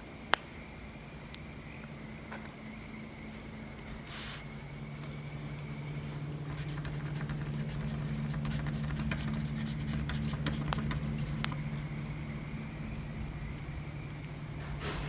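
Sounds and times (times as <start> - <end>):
steady low hum: 0.0 - 15.0
wood fire crackling and popping: 0.2 - 15.0.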